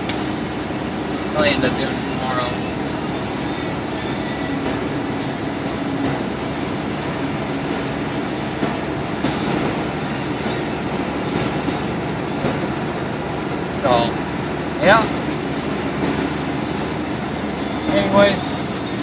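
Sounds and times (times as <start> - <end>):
truck cab road and engine noise: 0.0 - 19.0.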